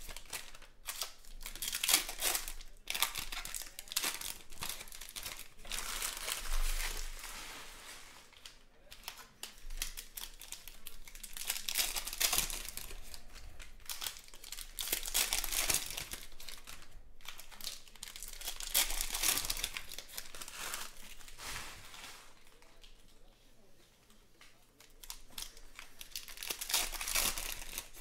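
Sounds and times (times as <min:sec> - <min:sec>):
foil wrapper crinkling and tearing: 0:00.0 - 0:23.3, 0:24.8 - 0:28.0.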